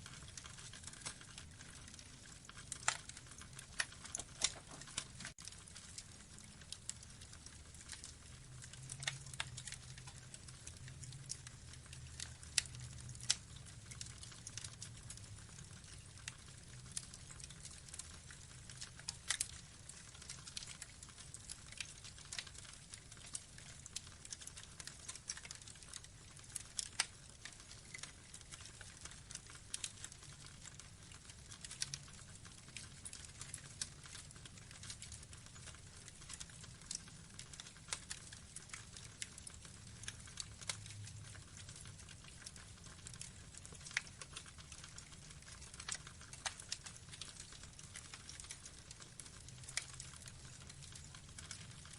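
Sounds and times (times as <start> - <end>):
burning logs crackling: 0.0 - 51.9.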